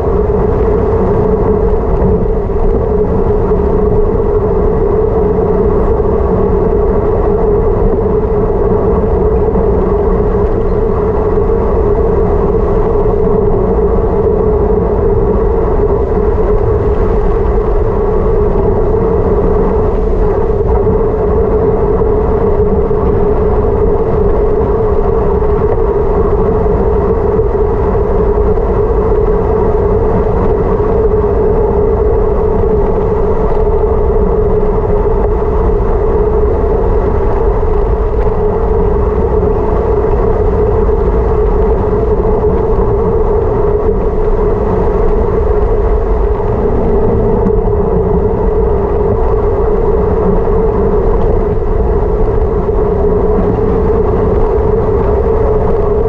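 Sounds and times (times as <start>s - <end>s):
constant hum: 0.0s - 56.0s
wind and road noise: 0.0s - 56.0s.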